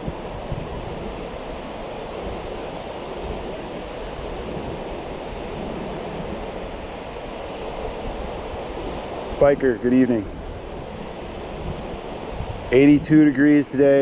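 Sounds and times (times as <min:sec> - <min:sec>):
surf washing: 0:00.0 - 0:14.0
wind noise on microphone: 0:00.0 - 0:14.0.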